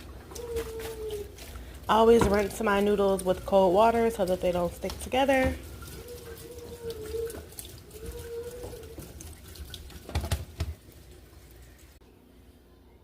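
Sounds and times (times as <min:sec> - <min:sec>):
kitchen tap running: 0:00.0 - 0:12.0.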